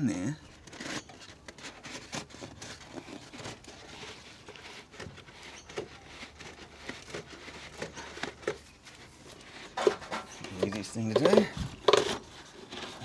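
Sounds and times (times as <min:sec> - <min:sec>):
light clicks and rustles: 0:00.4 - 0:13.0.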